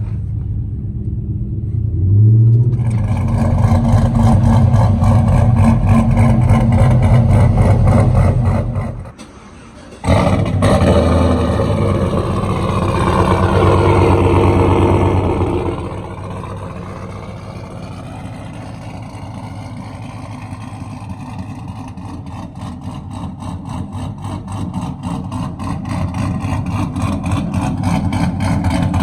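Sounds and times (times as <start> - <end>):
engine exhaust note accelerating: 0.0 - 9.2, 10.0 - 29.0.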